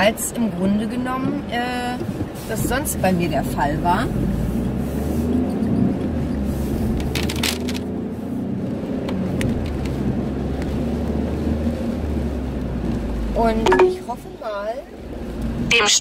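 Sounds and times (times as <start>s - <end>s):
car cabin engine and road rumble: 0.0s - 16.0s.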